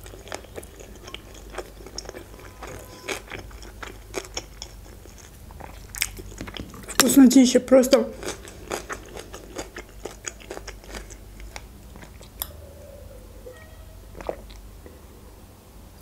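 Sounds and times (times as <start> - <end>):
wet chewing: 0.0 - 7.2, 7.9 - 12.6, 14.1 - 15.0.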